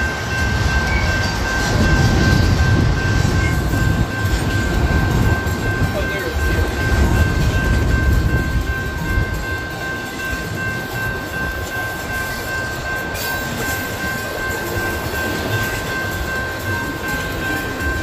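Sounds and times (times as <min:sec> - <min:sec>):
crossing warning bell ringing: 0:00.0 - 0:18.0
freight train rumbling past: 0:00.0 - 0:18.0.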